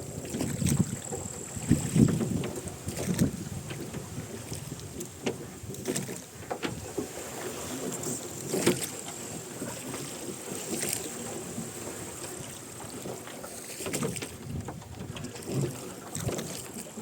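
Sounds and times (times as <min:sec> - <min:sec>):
oars dipping and splashing: 0:00.0 - 0:17.0.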